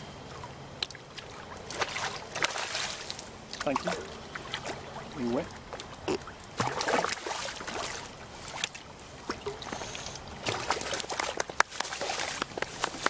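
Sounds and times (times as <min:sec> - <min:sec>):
water splashing and dripping: 0:00.2 - 0:13.0
fish thrashing at water surface: 0:01.2 - 0:13.0.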